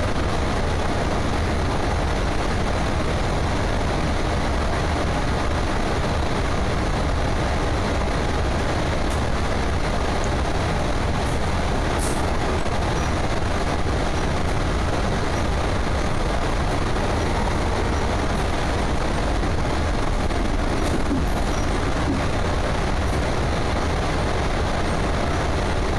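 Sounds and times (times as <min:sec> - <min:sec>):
train wheels rumbling on rail: 0:00.0 - 0:25.9.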